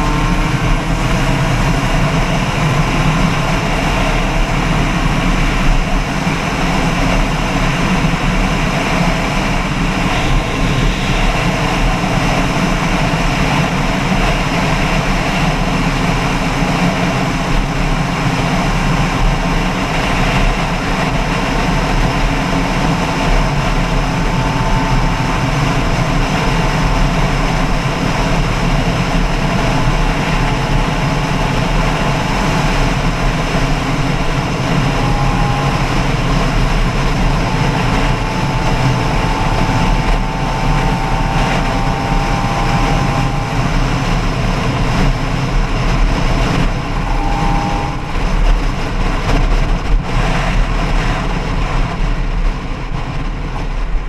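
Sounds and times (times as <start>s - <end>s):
faint wavering tones: 0.0s - 50.4s
vehicle engine running: 0.0s - 54.0s.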